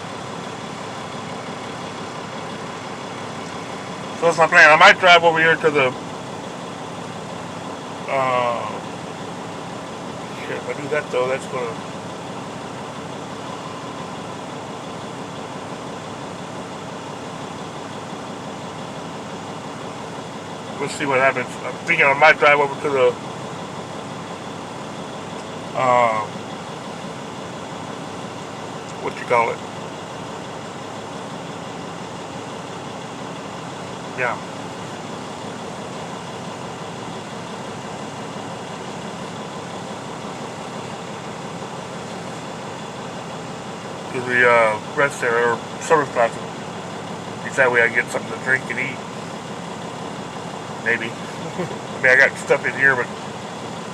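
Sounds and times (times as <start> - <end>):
climate fan running: 0.0 - 53.9
engine idling: 0.0 - 53.9.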